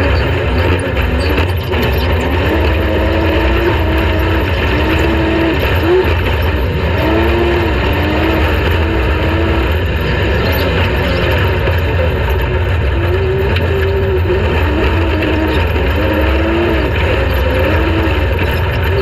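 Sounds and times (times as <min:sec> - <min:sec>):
heavy rumble: 0:00.0 - 0:19.0
race vehicle engine revving: 0:00.0 - 0:19.0.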